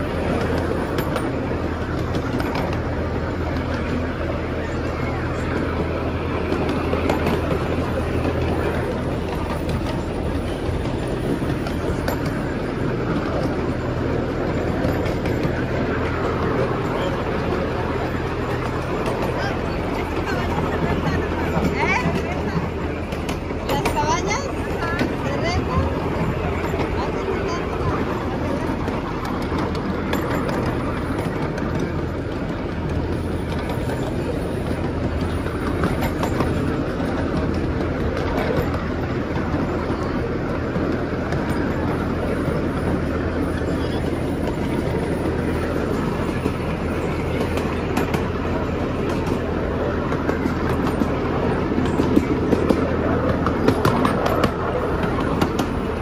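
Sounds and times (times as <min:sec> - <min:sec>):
small train rumbling: 0:00.0 - 0:56.0
wheels clicking on track: 0:00.0 - 0:56.0.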